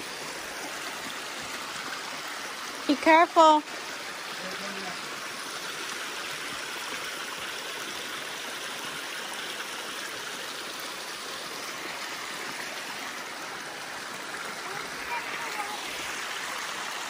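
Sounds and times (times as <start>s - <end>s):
creek water running over rock: 0.0s - 17.0s.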